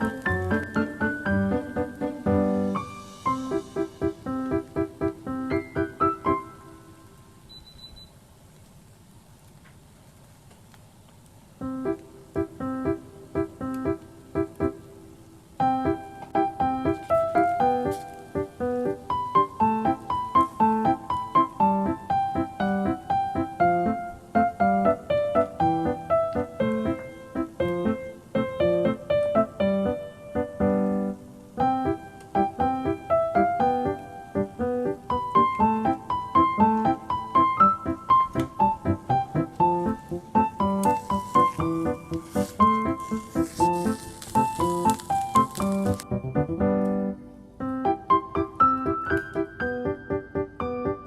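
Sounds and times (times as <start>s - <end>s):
piano music: 0.0s - 7.6s, 11.6s - 51.0s.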